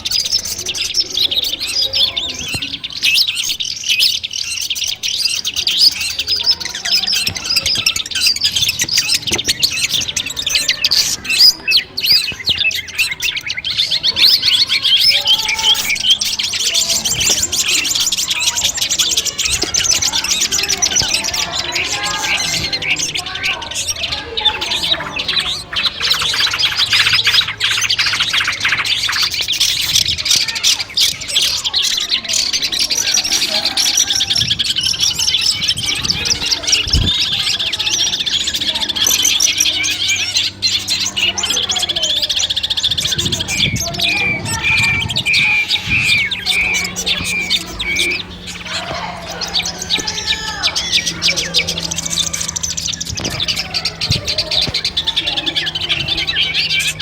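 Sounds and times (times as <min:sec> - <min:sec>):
bird scratchy chattering song: 0:00.0 - 0:57.0.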